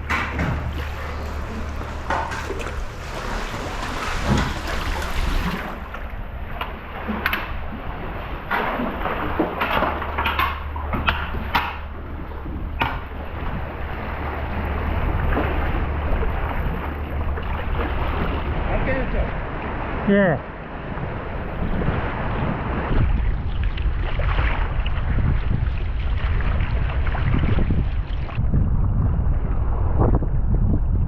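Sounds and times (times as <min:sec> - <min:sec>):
water sloshing around a kayak: 0:00.0 - 0:28.5
steady low rumble: 0:00.0 - 0:31.0.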